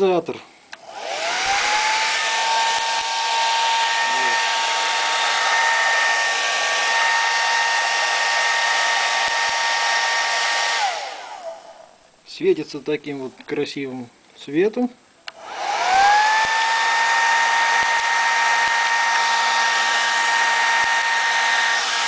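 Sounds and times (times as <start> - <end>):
hair dryer whine: 0.7 - 12.0, 15.3 - 22.0.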